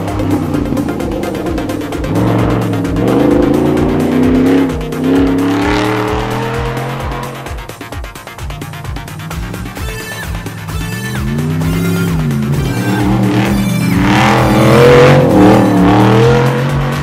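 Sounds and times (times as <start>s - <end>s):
background music with beat: 0.0s - 17.0s
rally car engine revving: 0.0s - 17.0s.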